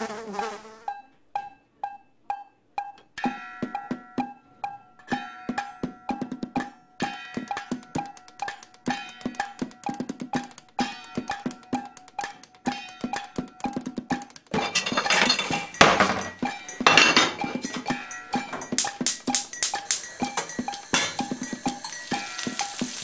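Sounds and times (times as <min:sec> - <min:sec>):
percussive background music: 0:02.8 - 0:14.6, 0:15.6 - 0:23.0.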